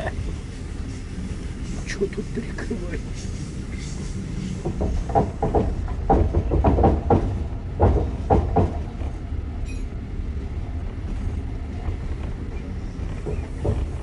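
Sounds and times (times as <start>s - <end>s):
train carriage rumbling on rails: 0.0s - 14.0s.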